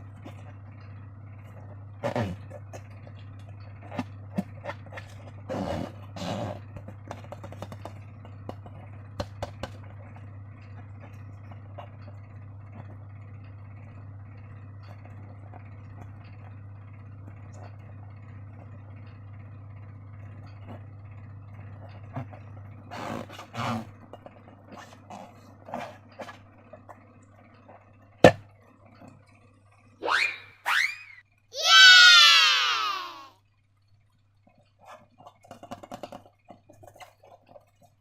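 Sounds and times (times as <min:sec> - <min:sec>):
steady low hum: 0:00.0 - 0:31.5.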